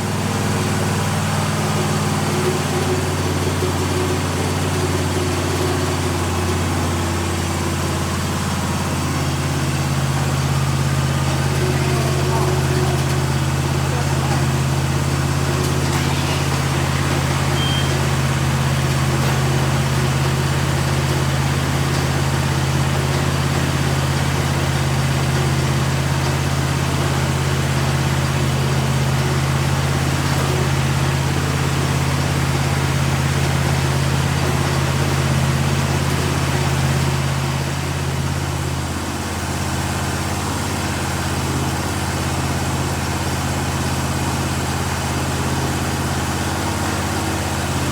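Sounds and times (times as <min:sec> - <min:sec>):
engine droning: 0:00.0 - 0:47.9.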